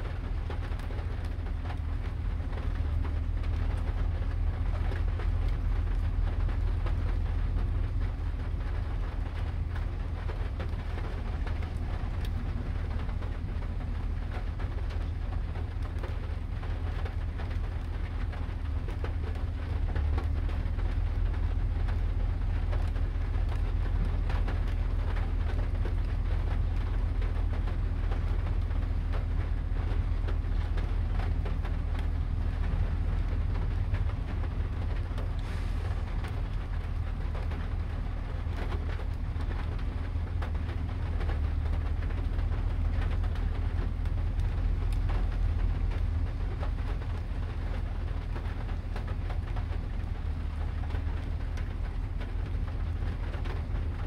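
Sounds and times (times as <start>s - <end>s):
constant low rumble: 0.0s - 54.0s
steady rain falling: 0.0s - 54.0s.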